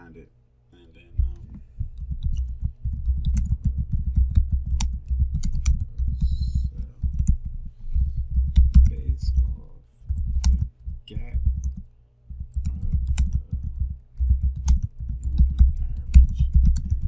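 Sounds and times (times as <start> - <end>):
computer keyboard typing: 1.2 - 17.0.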